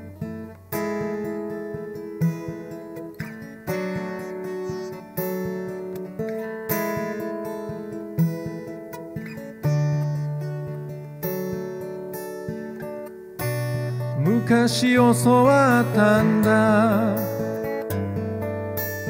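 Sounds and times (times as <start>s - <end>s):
acoustic guitar strummed chords: 0.0s - 19.0s.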